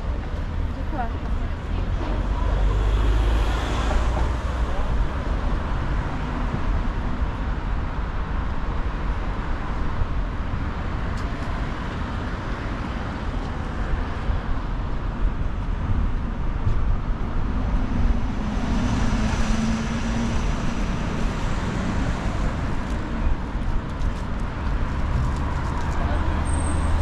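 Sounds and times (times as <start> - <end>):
bus engine passing: 0.0 - 9.8, 10.6 - 27.0
road traffic rushing: 0.0 - 27.0.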